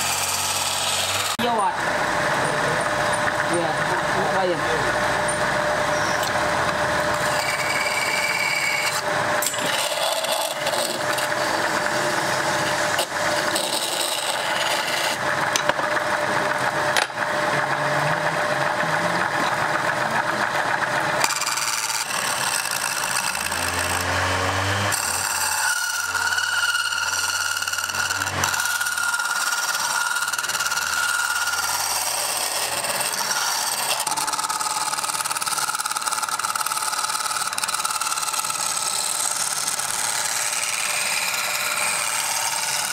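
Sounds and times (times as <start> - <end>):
turning tool scraping wood: 0.0 - 1.6, 5.3 - 42.9
wood lathe whining: 0.0 - 42.9.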